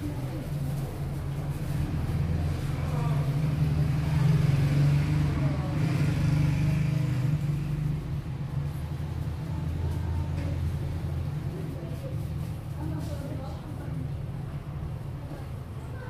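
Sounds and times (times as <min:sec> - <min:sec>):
low engine-like rumble: 0:00.0 - 0:16.0.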